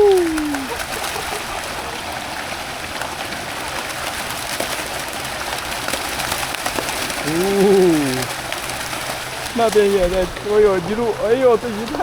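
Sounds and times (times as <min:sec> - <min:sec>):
feeding fish splashing water: 0:00.0 - 0:12.0.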